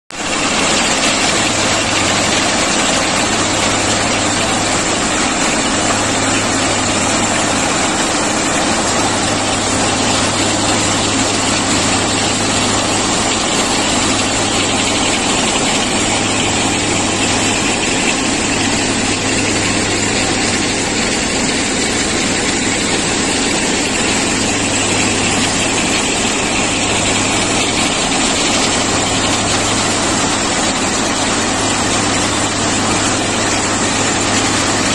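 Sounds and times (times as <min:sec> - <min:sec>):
loud mechanical machine noise: 0:00.2 - 0:34.9.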